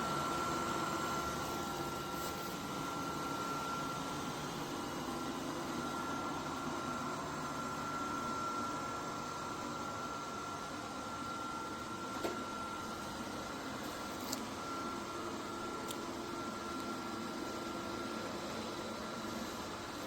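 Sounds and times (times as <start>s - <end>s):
robot vacuum whirring with whine: 0.0s - 20.0s.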